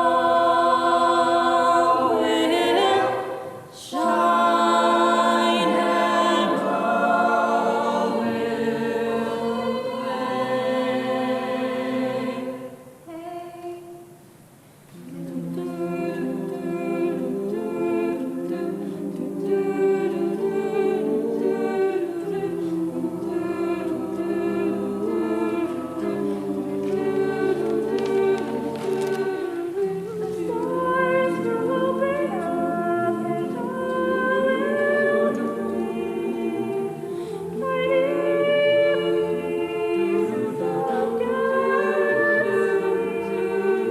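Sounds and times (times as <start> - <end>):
choir singing in parts: 0.0 - 43.9.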